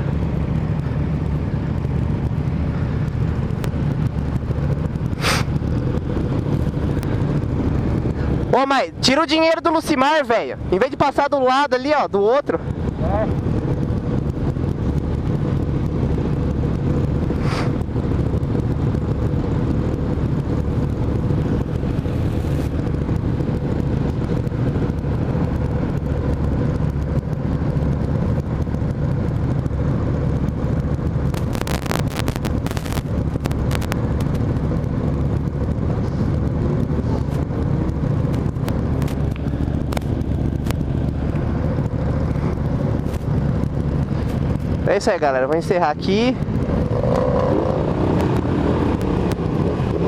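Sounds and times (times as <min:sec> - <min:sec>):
wind rushing over microphone: 0:00.0 - 0:11.4, 0:12.0 - 0:50.0
motorcycle engine running: 0:00.0 - 0:50.0.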